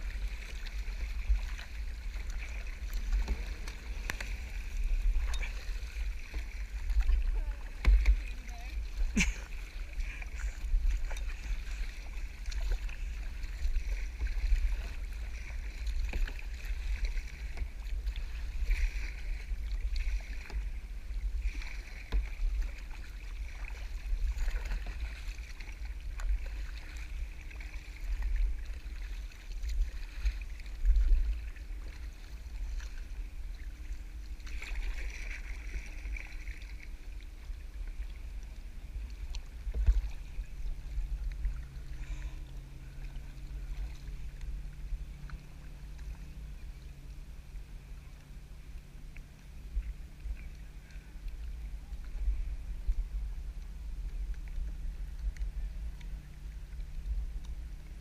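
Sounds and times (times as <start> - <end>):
low rumble: 0.0 - 58.0
water splashing around kayak: 0.0 - 58.0.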